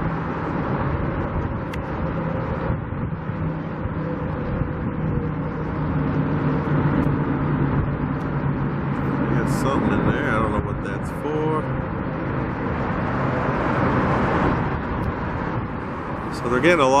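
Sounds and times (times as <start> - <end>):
car engines running: 0.0 - 17.0
tyres on the road: 0.0 - 17.0.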